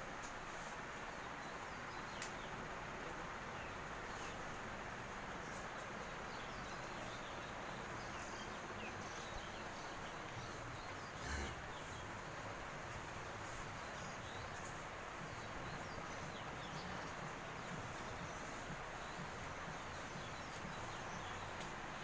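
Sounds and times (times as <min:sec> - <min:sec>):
cowshed background noise: 0:00.0 - 0:22.0.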